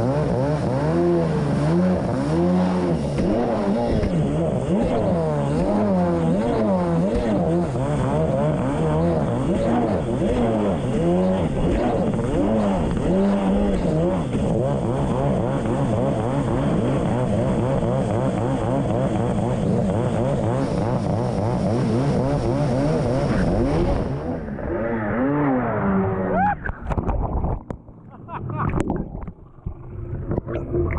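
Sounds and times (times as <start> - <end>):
jet ski engine revving: 0.0 - 26.4.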